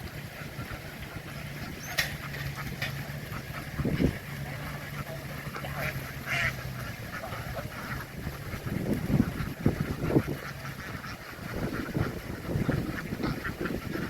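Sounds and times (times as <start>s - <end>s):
boat engine idling: 0.0s - 14.0s
ducks quacking: 0.0s - 14.0s.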